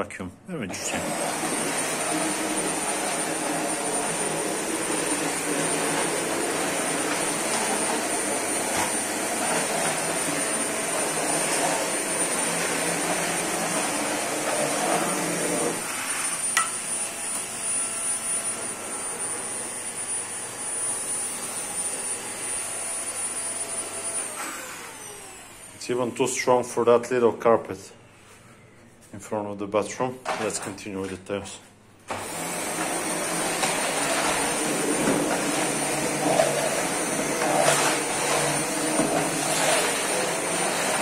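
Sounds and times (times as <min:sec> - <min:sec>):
vacuum cleaner motor whine: 0:00.7 - 0:26.2, 0:32.1 - 0:41.0.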